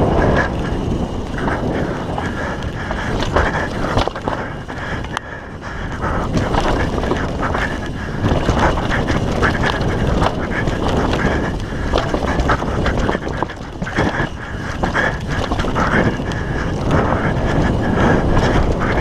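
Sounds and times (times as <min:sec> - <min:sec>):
mountain bike rattling and clattering: 0:00.0 - 0:19.0
tyre and wind noise: 0:00.0 - 0:19.0.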